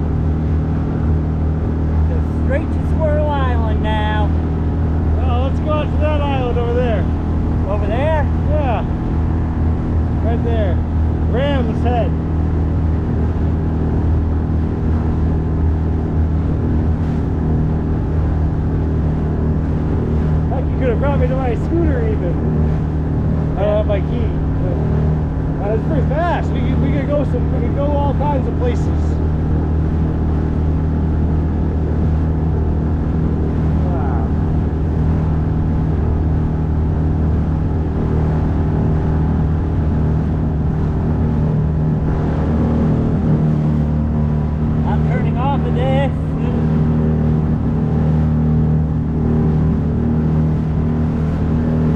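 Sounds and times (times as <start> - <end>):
outboard motor droning: 0.0 - 51.9
rushing water and hull noise: 0.0 - 51.9.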